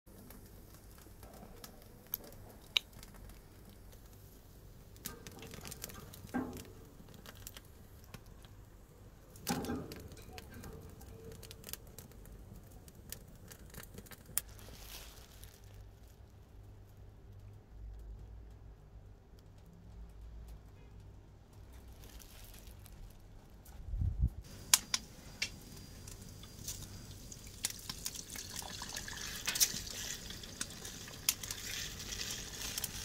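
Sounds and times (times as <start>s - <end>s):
twigs crackling in fire: 0.1s - 33.0s.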